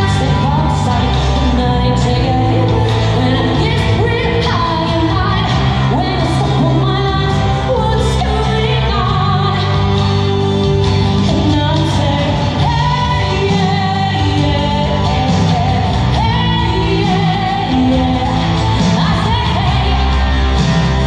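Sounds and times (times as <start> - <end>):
instrumental backing track: 0.0 - 21.0
woman singing into microphone: 0.0 - 21.0.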